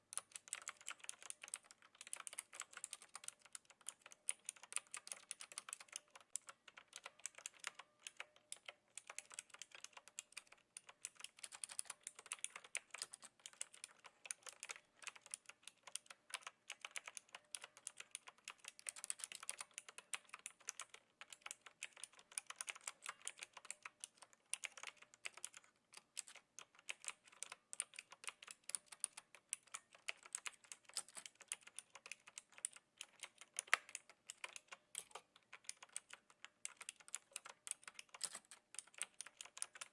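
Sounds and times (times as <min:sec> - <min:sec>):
mechanical keyboard key clicks: 0:00.1 - 0:39.9.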